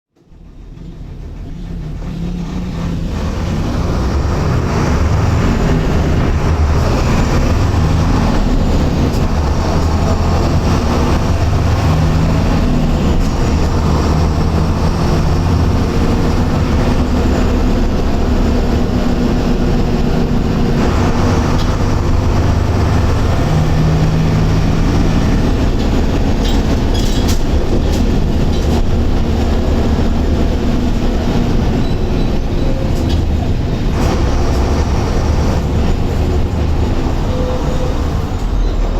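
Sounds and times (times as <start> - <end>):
bus diesel engine rumbling: 0.1 - 38.9.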